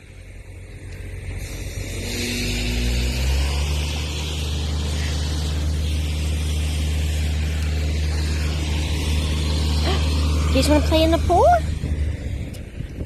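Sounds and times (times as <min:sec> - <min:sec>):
motor spinning up and humming: 0:00.2 - 0:13.0.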